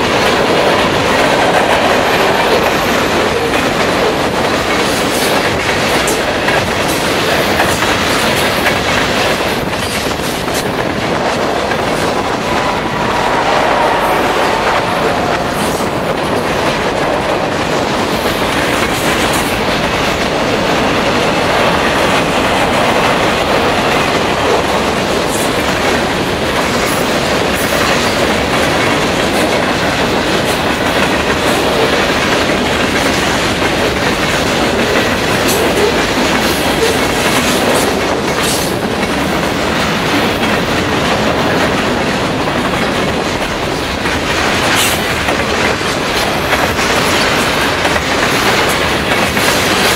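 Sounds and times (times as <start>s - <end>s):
freight train wheels clacking: 0.0s - 49.9s.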